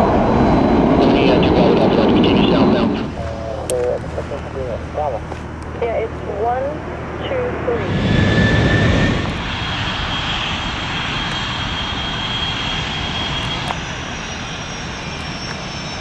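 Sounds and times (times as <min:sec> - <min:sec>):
jet engines taxiing: 0:00.0 - 0:16.0.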